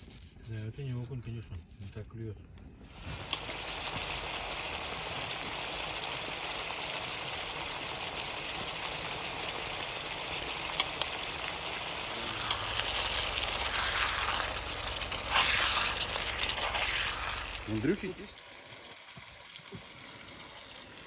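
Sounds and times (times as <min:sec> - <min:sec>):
meat sizzling in a frying pan: 0:02.9 - 0:21.0.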